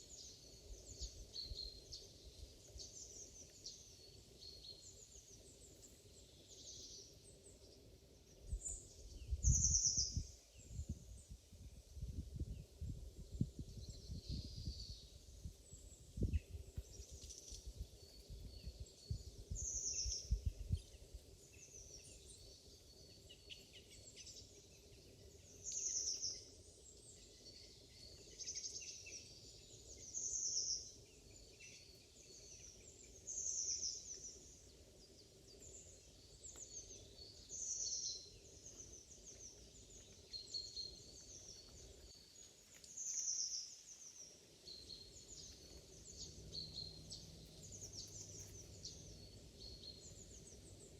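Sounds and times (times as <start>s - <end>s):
faint bird chirps: 0.0s - 50.9s
songbird song phrase: 0.0s - 50.9s.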